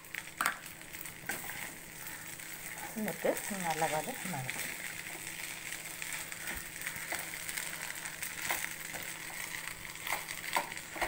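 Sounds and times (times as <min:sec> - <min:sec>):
frying hiss: 0:00.0 - 0:11.0.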